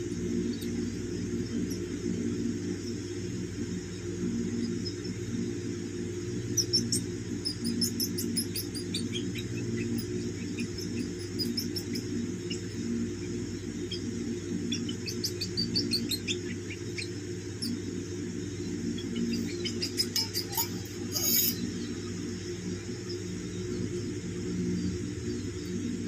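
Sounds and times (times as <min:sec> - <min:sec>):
squirrels chirping: 0:00.0 - 0:23.9
steady low hum: 0:00.0 - 0:26.0.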